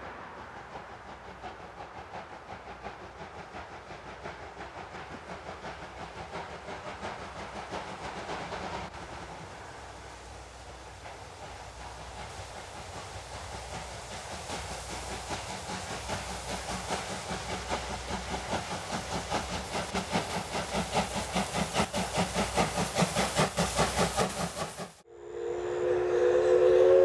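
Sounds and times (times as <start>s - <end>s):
steam locomotive chuffing: 0.0s - 27.0s.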